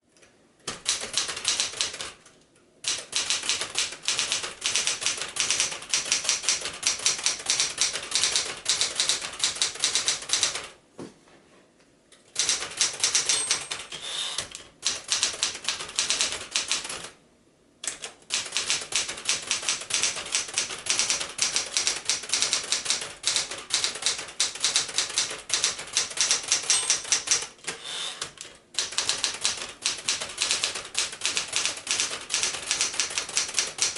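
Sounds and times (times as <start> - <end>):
manual typewriter keystroke clacks: 0.6 - 10.8, 12.3 - 17.2, 17.8 - 33.9.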